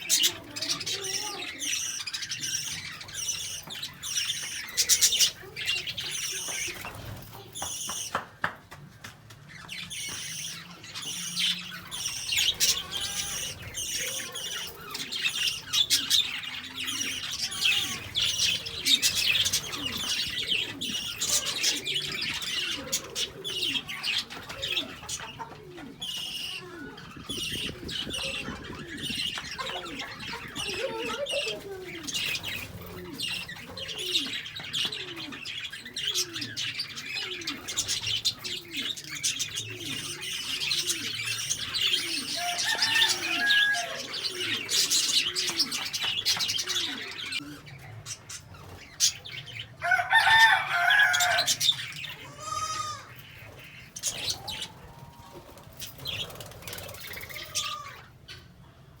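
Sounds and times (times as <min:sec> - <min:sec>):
lovebirds twittering: 0:00.0 - 0:08.2, 0:09.5 - 0:59.0.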